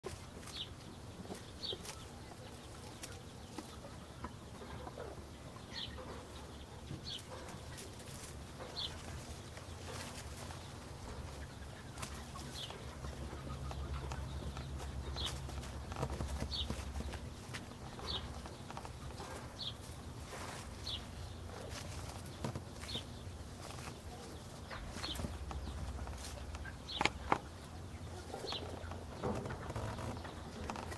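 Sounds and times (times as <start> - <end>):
small bird chirping: 0.1 - 30.9.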